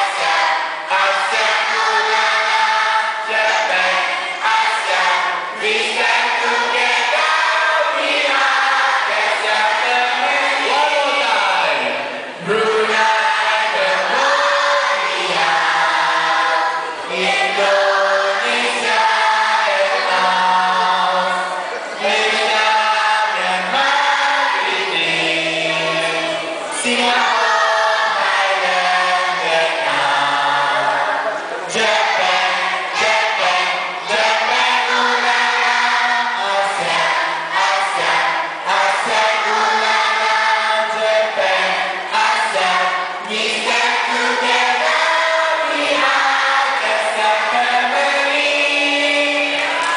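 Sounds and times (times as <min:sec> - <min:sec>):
children's choir singing: 0:00.0 - 0:49.9.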